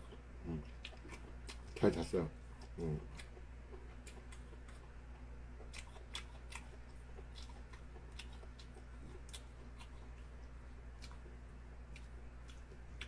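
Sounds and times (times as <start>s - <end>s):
low steady hum: 0.0s - 13.0s
person chewing food: 0.0s - 13.0s.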